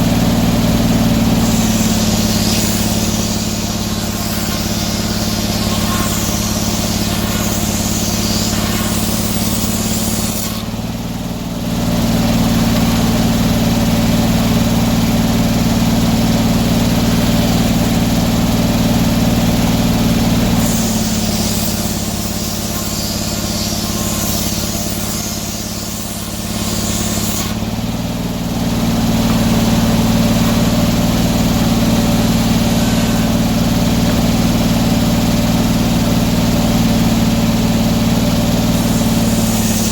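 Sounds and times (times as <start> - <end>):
saw cutting log hiss: 0.0 - 39.9
sawmill engine running: 0.0 - 39.9.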